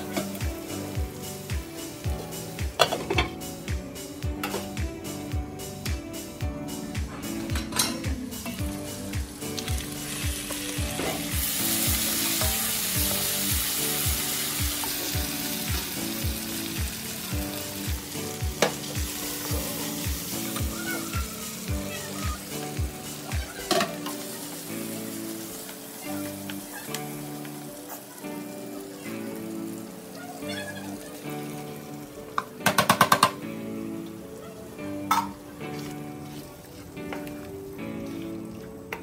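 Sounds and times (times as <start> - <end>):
food sizzling in frying pan: 0.0 - 6.9, 7.6 - 38.9
background music with steady beat: 0.0 - 39.0.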